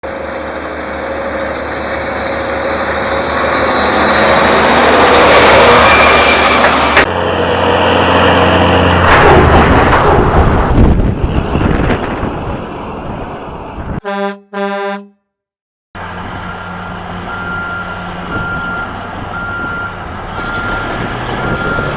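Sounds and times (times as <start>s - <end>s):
heavy diesel engines running: 0.0s - 14.2s, 16.0s - 21.9s.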